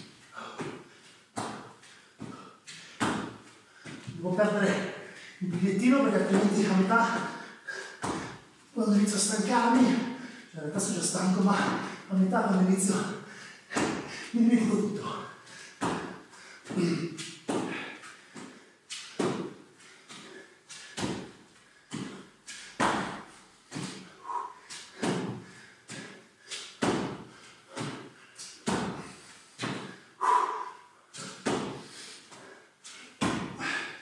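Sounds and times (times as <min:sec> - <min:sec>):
bare feet thudding on rubber floor: 0:00.0 - 0:08.5, 0:13.0 - 0:33.9.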